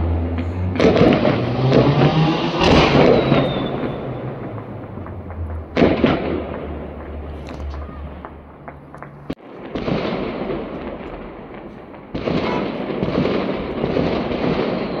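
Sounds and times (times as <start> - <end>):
fireworks crackling: 0.1 - 15.0.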